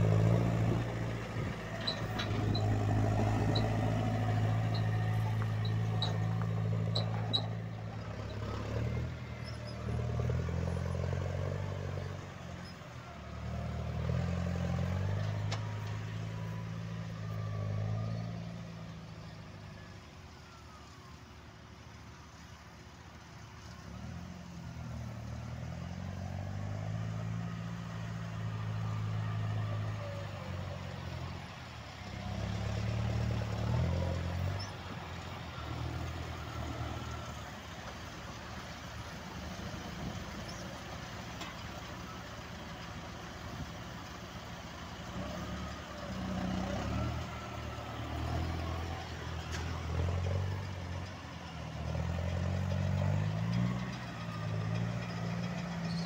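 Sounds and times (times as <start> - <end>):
tractor diesel engine running: 0.0 - 24.0, 24.8 - 56.0.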